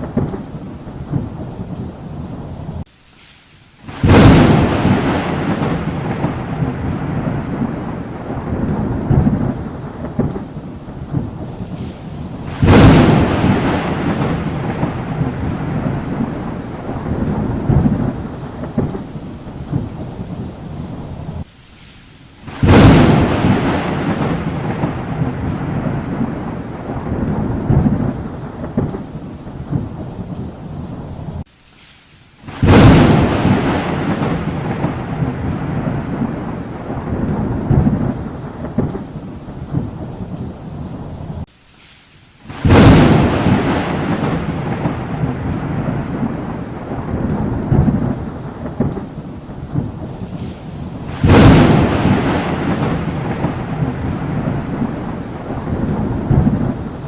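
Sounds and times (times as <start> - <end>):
rolling thunder: 0.0 - 2.9, 3.9 - 21.5, 22.5 - 31.4, 32.5 - 41.5, 42.5 - 57.0
thunderclaps with rumble: 0.0 - 2.9, 3.9 - 21.5, 22.5 - 31.4, 32.5 - 41.5, 42.5 - 57.0
steady rain: 0.0 - 57.0.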